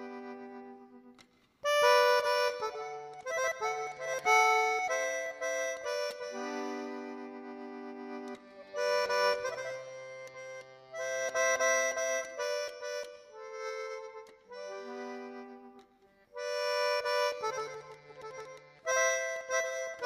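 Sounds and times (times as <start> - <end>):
button accordion playing chords: 0.0 - 20.0.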